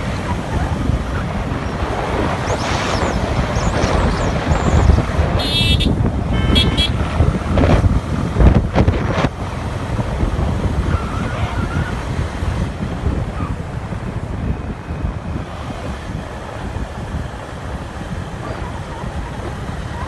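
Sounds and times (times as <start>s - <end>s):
low rumble of travel: 0.0s - 20.0s
wind rushing over microphone: 0.0s - 20.0s.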